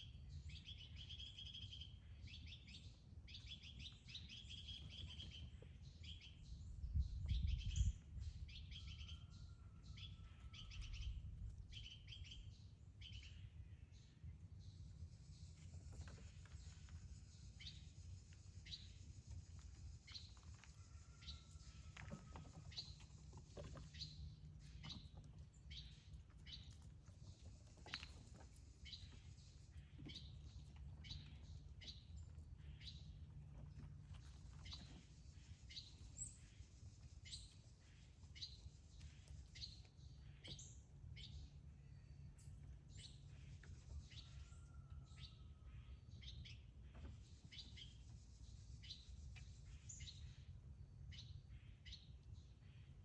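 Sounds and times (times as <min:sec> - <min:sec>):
small bird chirping: 0:00.0 - 0:53.0.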